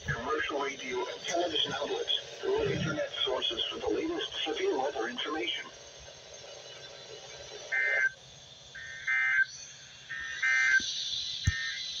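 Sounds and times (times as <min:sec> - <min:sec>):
weather radio data bursts: 0:00.0 - 0:12.0.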